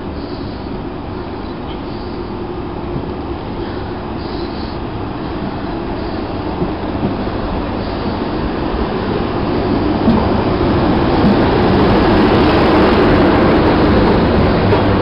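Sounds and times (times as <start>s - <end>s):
electric locomotive running noise: 0.0s - 15.0s
train wheel noise: 0.0s - 15.0s.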